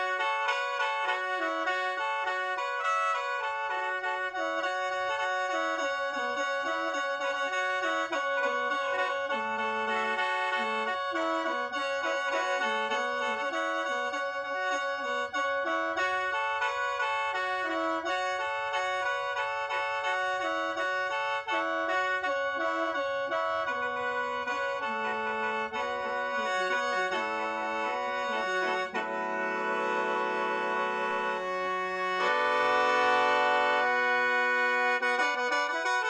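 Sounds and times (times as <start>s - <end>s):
mouth organ melody over drone: 0.0s - 36.0s.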